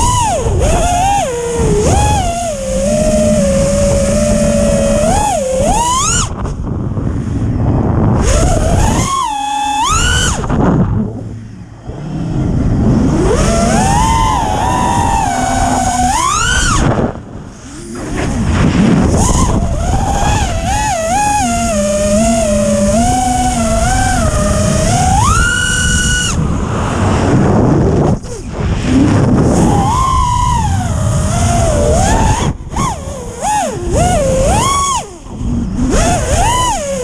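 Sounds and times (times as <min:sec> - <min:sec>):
quadcopter motors whining: 0:00.0 - 0:37.0.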